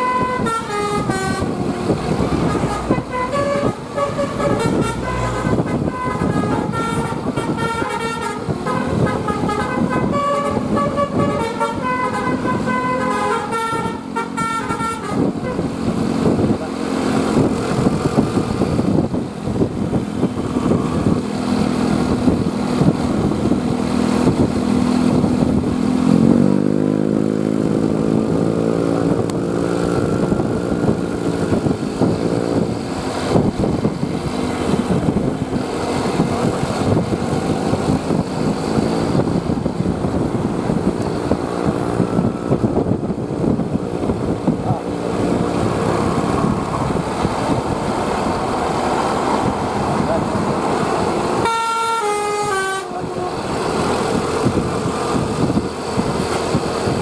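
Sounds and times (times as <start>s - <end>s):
road vehicle engine revving: 0.0s - 57.0s.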